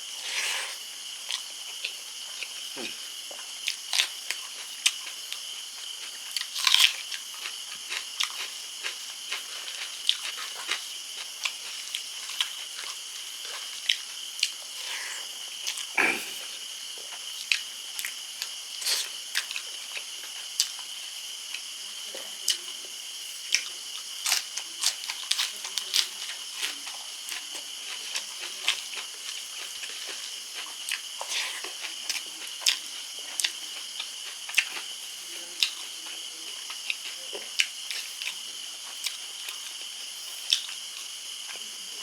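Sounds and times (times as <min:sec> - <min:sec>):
steady high-pitched hiss: 0:00.0 - 0:42.0.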